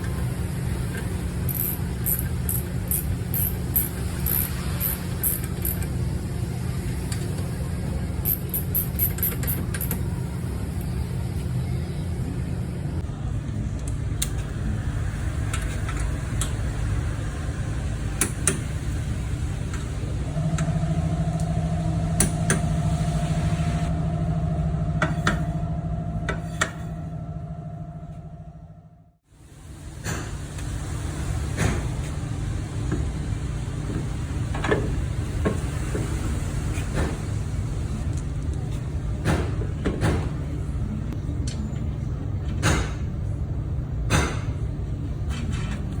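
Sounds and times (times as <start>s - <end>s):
road and tyre rumble: 0.0s - 28.6s, 29.2s - 46.0s.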